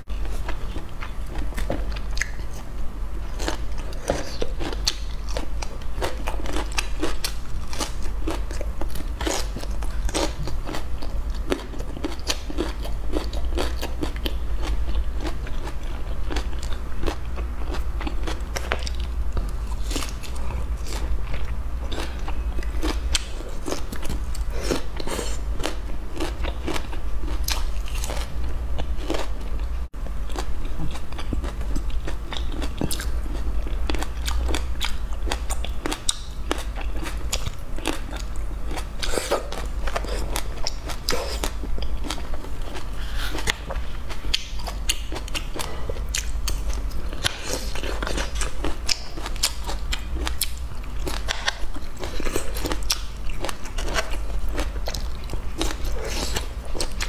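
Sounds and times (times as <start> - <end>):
low steady hum: 0.0 - 57.0
chewing and crunching broccoli: 0.1 - 57.0.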